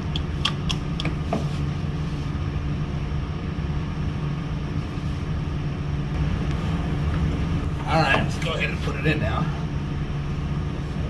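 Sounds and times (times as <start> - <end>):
machinery drone: 2.1 - 11.0.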